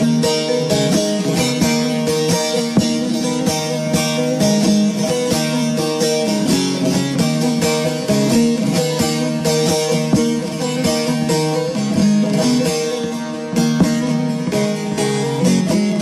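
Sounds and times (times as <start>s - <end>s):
plucked string instruments: 0.0s - 16.0s.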